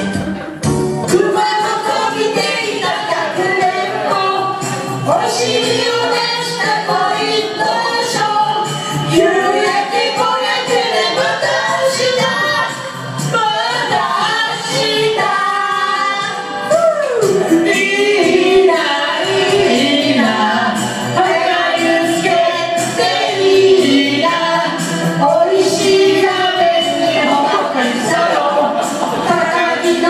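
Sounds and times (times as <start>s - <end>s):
musical accompaniment: 0.0s - 30.0s
woman singing: 1.1s - 30.0s.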